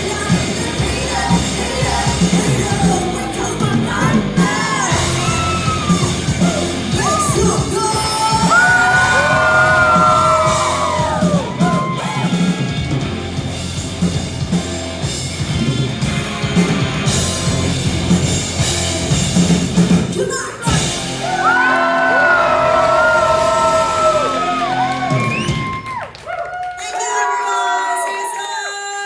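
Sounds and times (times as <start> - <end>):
live rock band playing: 0.0 - 26.1.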